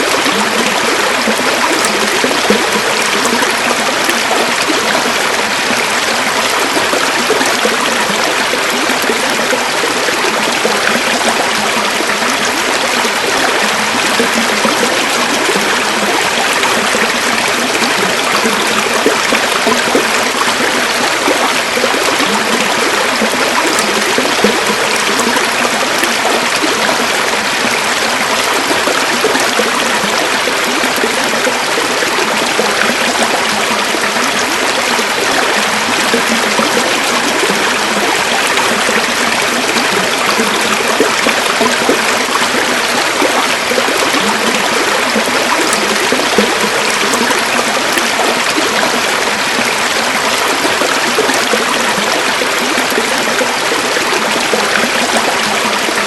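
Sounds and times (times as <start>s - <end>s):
river water rushing and gurgling: 0.0s - 56.0s.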